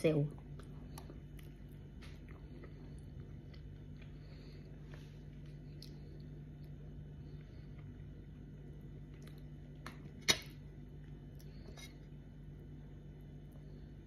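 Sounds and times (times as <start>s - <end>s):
steady low hum: 0.0s - 14.0s
soft chewing and mouth clicks: 0.3s - 12.4s.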